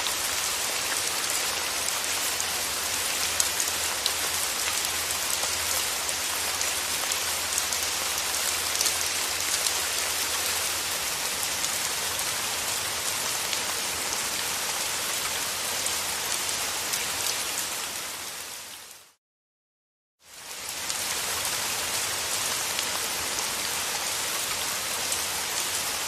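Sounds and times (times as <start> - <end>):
steady rain falling: 0.0 - 19.2, 20.2 - 26.0.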